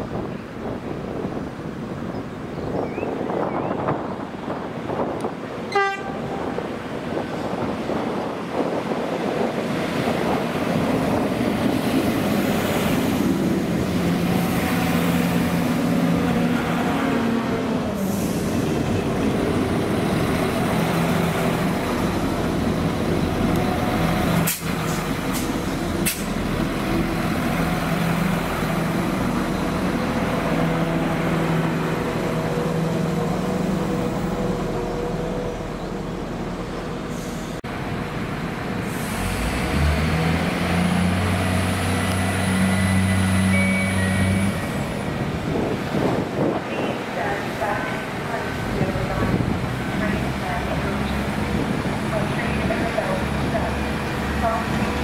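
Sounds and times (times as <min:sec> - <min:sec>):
diesel train engines droning: 0:00.0 - 0:55.0.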